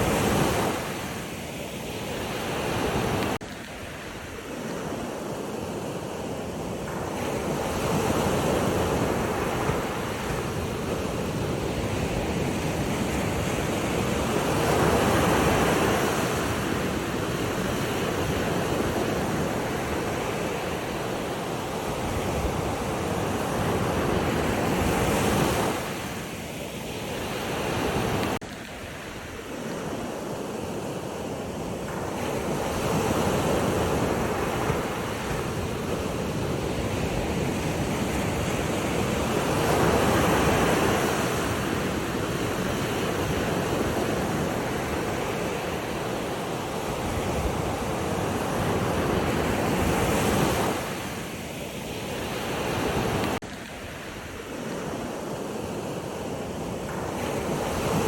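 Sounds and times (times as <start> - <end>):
ocean waves washing in: 0.0 - 58.0
wind on microphone: 0.0 - 58.0.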